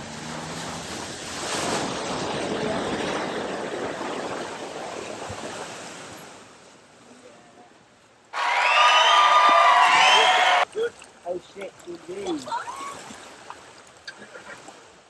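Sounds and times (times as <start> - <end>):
rushing splashing water: 0.0 - 6.5, 8.4 - 15.0.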